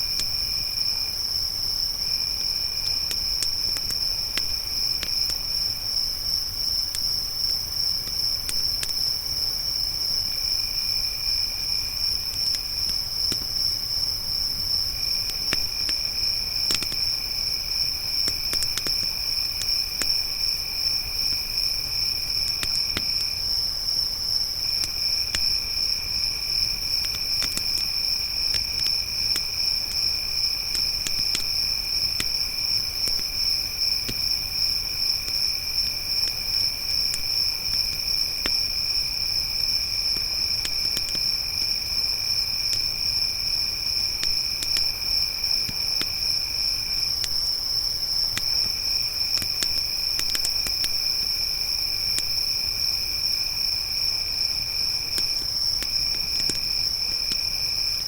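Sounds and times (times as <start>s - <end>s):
crickets trilling: 0.0s - 58.0s
campfire crackling: 0.1s - 52.4s, 54.0s - 58.0s.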